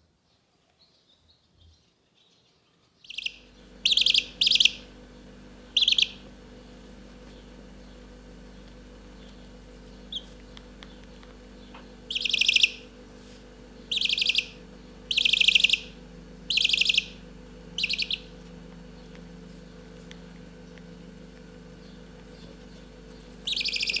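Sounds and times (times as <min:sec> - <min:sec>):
chick peeping: 0:03.1 - 0:24.0
chicks trilling: 0:03.1 - 0:24.0.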